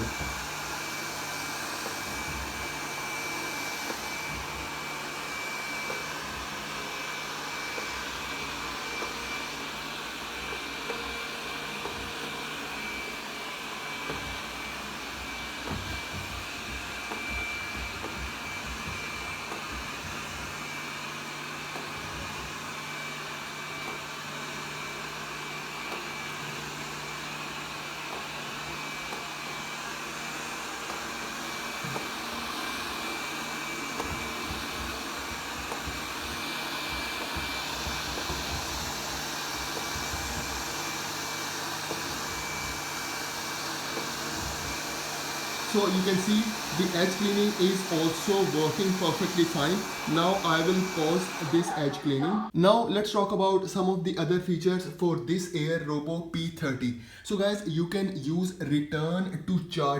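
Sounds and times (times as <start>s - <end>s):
robot vacuum cleaner whirring: 0.0s - 52.6s.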